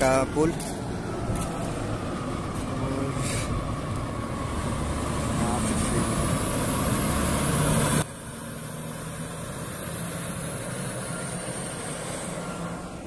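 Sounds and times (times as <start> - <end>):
low engine hum: 0.0 - 13.0
outdoor noise: 0.0 - 13.0.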